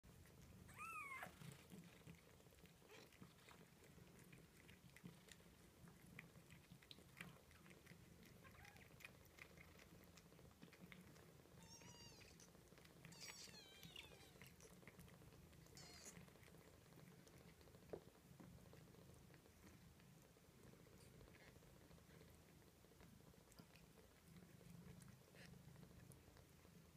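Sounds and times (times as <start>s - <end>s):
cat licking: 1.3s - 26.9s.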